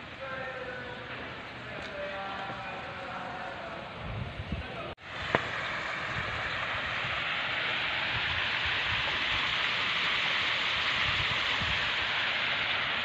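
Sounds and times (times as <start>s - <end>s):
steady rushing hiss: 0.0s - 4.2s, 4.8s - 13.0s.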